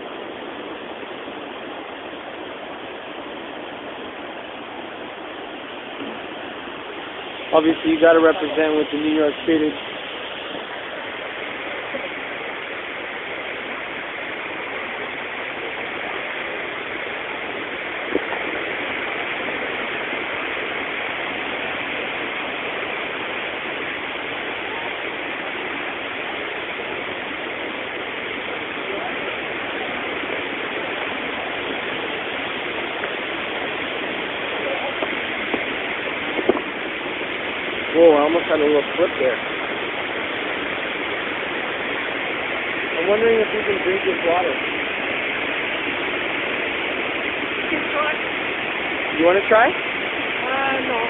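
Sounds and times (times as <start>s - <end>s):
water rushing roar: 0.0s - 51.0s.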